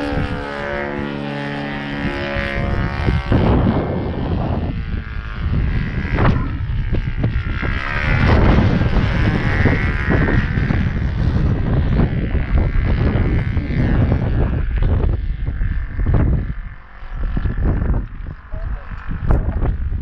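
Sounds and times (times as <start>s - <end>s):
model plane engine: 0.0s - 20.0s
wind buffeting microphone: 0.0s - 20.0s.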